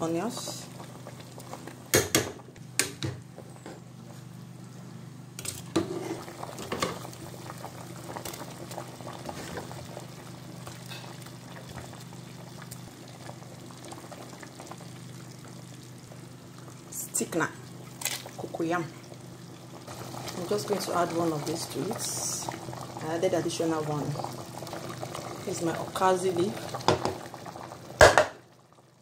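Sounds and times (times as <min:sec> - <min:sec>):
low steady hum: 0:00.0 - 0:29.0
soup boiling and bubbling: 0:00.0 - 0:29.0.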